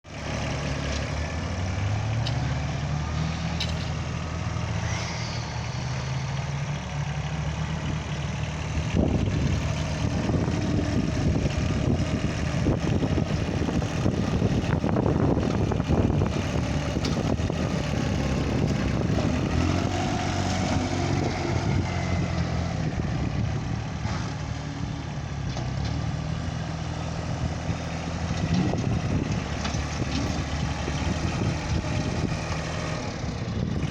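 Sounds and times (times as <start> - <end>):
heavy equipment engine revving: 0.1 - 33.9.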